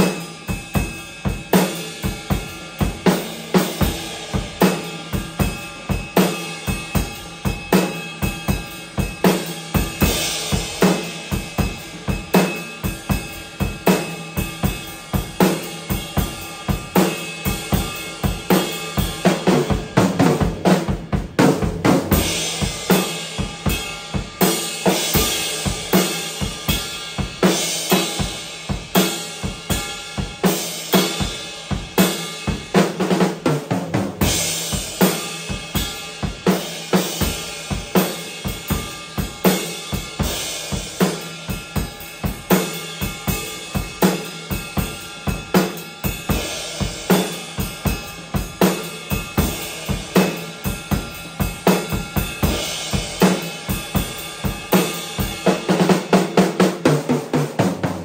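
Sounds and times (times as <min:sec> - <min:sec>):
drum kit groove: 0:00.0 - 0:58.0.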